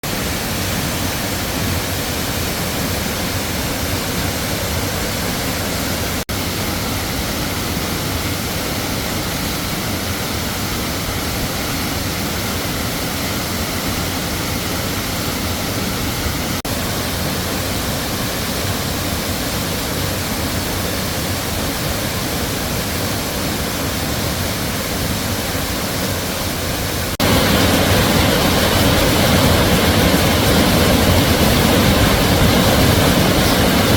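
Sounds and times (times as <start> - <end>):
waterfall rushing and splashing: 0.0 - 33.9.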